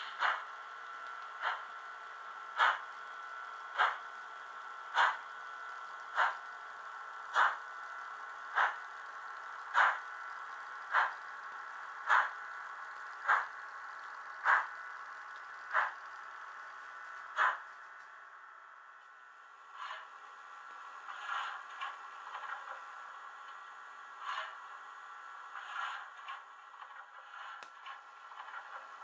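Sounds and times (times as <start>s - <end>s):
model locomotive steam chuffs: 0.0s - 17.9s, 19.5s - 29.0s
steady high hum: 0.0s - 29.0s.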